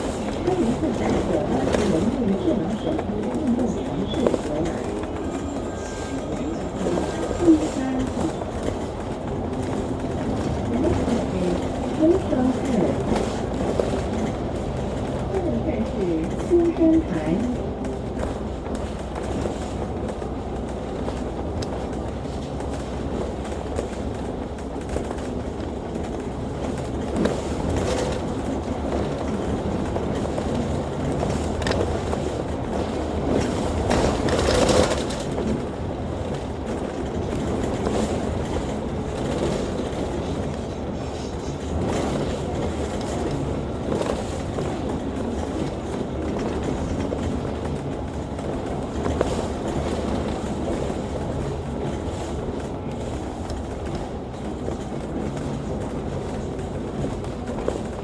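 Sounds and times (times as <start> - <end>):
bus body rattling: 0.0 - 58.0
bus engine rumble: 0.0 - 58.0
road noise: 0.0 - 58.0.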